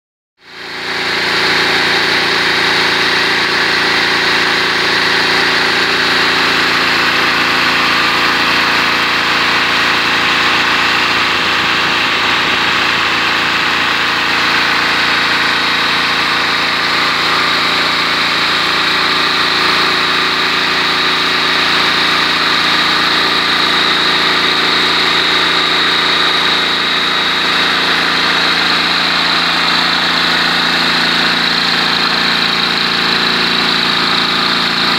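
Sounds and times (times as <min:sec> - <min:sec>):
small engine running steadily: 0:00.4 - 0:34.9.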